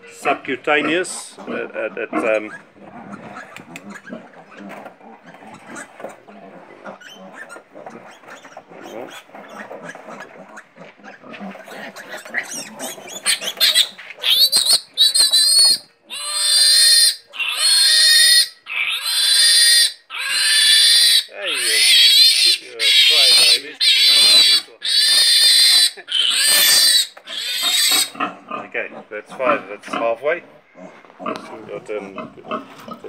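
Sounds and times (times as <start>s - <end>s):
piglet squealing: 0.8s - 33.0s.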